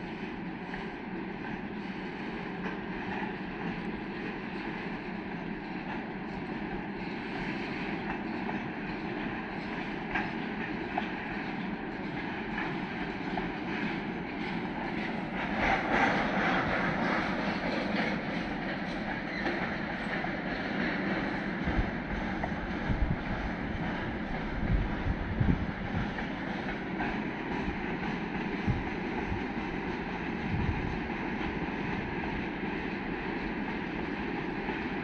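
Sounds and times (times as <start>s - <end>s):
freight train wheels rumbling on rails: 0.0s - 35.0s.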